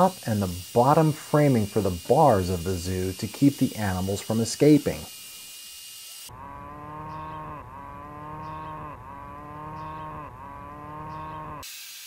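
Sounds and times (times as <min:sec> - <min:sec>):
table saw cutting boards: 0:00.0 - 0:12.0.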